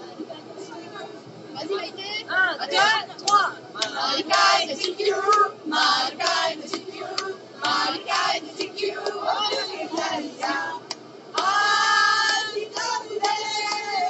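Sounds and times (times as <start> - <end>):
group singing and shouting: 2.7 - 14.0.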